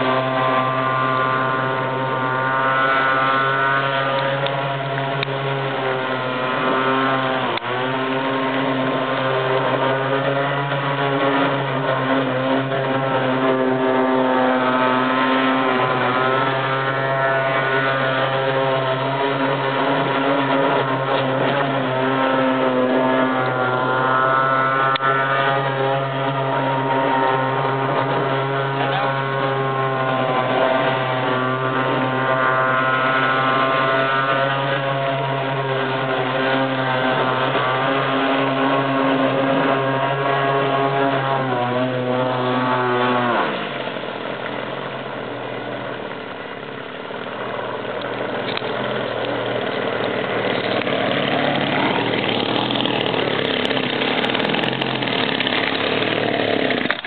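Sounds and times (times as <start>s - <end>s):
two-stroke engine at high revs: 0.0s - 57.0s.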